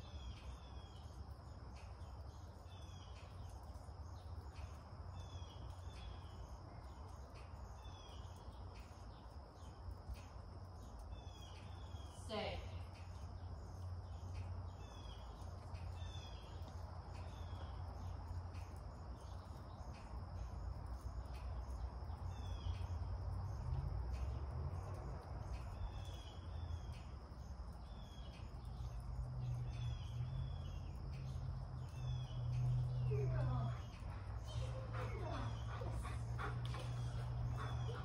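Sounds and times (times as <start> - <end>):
low background hum: 0.0 - 38.0
small bird chirping: 0.0 - 38.0.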